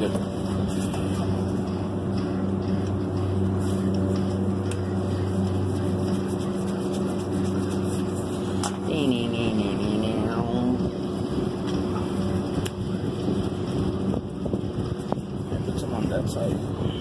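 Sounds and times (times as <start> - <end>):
refrigeration machine hum: 0.0 - 17.0.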